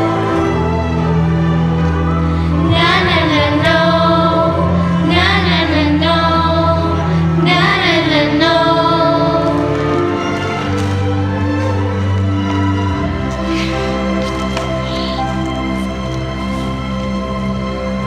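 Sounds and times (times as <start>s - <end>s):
choir singing held chords: 2.4s - 18.0s.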